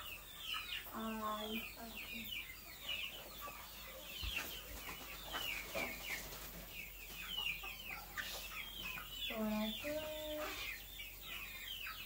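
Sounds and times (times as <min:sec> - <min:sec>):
birds cheeping: 0:00.0 - 0:12.0.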